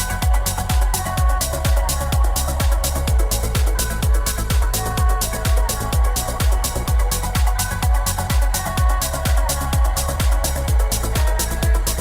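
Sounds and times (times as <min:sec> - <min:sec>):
electronic dance music: 0:00.0 - 0:12.0
hi-hats: 0:00.0 - 0:12.0
kick drum: 0:00.0 - 0:12.0.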